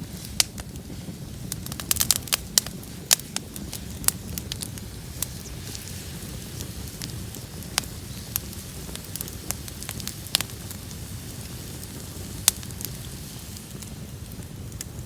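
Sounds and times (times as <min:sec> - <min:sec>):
bonfire burning: 0:00.0 - 0:15.0
fire crackling and popping: 0:00.0 - 0:15.0.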